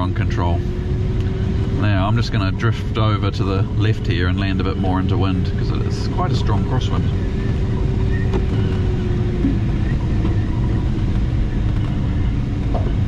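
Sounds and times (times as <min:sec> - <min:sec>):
airflow and wind rushing: 0:00.0 - 0:13.0.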